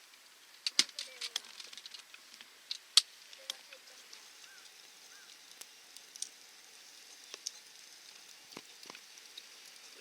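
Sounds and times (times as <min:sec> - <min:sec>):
campfire crackling: 0:00.0 - 0:10.0
fire popping: 0:00.0 - 0:10.0.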